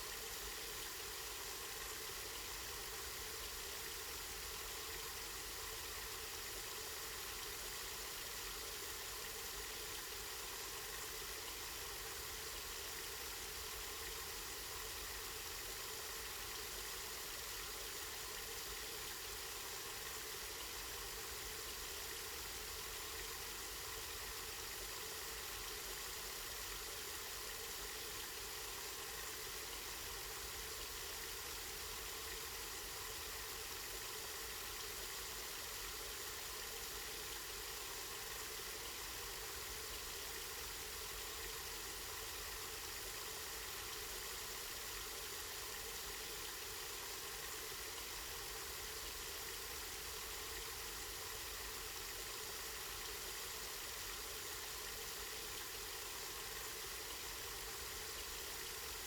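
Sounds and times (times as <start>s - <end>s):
spring water running: 0.1s - 59.0s.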